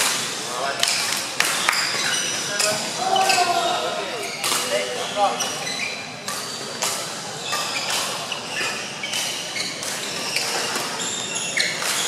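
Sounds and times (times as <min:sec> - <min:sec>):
shoes squeaking on floor: 0:01.6 - 0:12.0.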